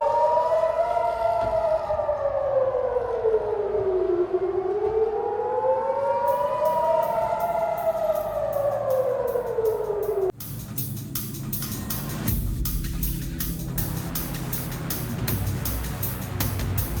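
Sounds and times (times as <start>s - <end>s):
air-raid siren wailing: 0.0s - 10.4s, 13.6s - 17.0s.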